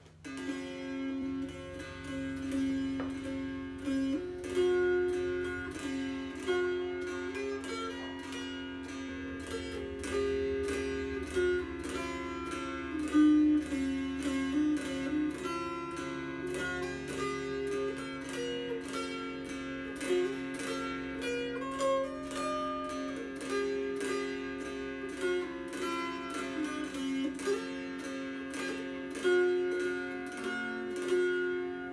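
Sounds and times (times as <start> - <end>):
mountain dulcimer strummed: 0.0 - 31.9.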